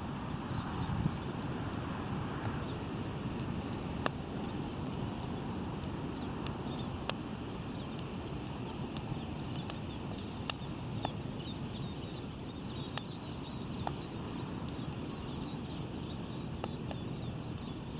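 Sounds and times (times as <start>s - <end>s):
bonfire crackling and popping: 0.0s - 17.9s
low rumble of fire: 0.0s - 17.9s.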